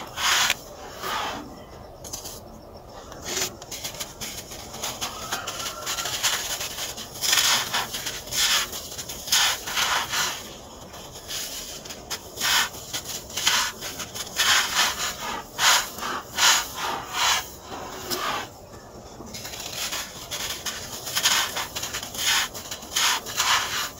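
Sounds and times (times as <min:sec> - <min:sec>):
dry sand crushed between hands: 0:00.0 - 0:02.5, 0:03.1 - 0:23.9.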